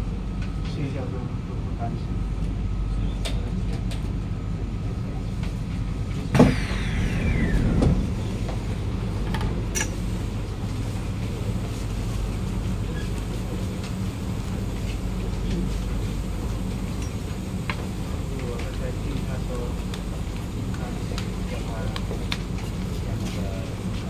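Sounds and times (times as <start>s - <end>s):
steady low hum: 0.0s - 24.0s
metro train motor whine: 1.4s - 24.0s.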